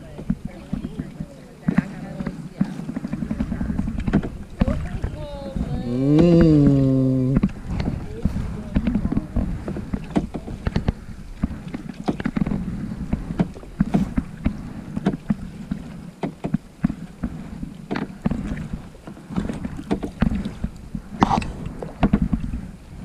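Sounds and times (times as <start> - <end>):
water splashing against kayak hull: 0.0 - 23.0.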